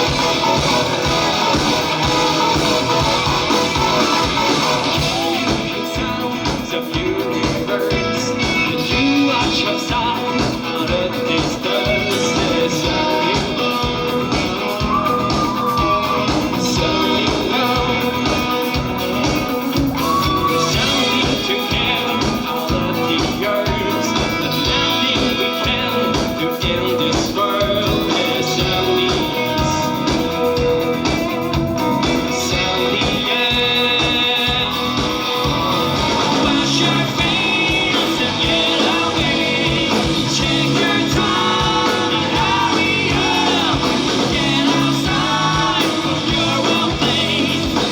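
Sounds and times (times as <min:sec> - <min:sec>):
drums with steady beat: 0:00.0 - 0:47.9
electric guitar: 0:00.0 - 0:47.9.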